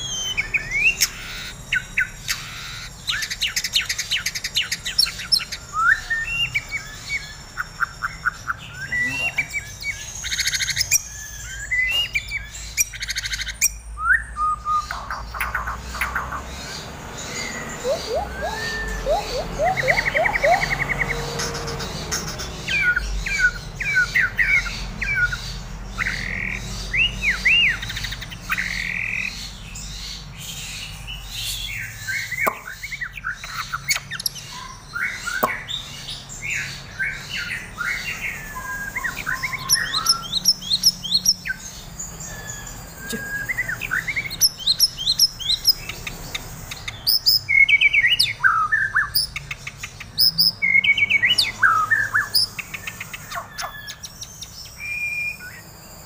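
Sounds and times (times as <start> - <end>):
songbird chirps and trills: 0.0 - 56.0.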